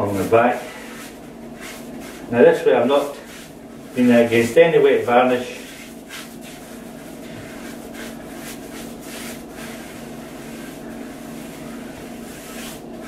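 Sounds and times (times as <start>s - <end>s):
paintbrush brushing on varnish: 0.0s - 13.0s
steady electrical hum: 0.0s - 13.0s.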